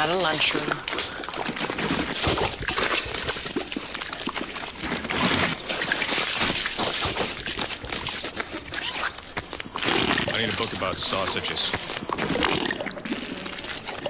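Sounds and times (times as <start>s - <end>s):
splashing: 0.0s - 14.0s.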